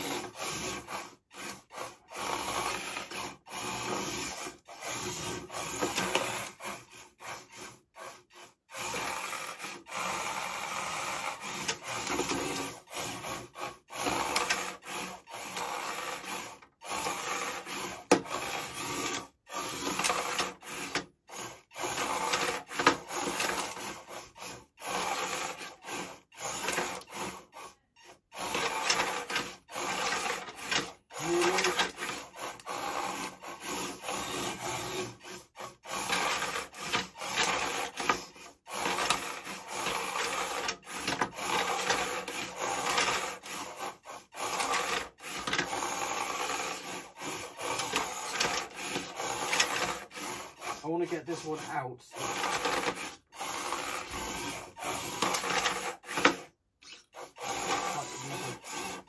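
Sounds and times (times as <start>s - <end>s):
plastic wheels scrubbing on wood: 0.0s - 59.0s
small drive motors whining: 0.0s - 59.0s.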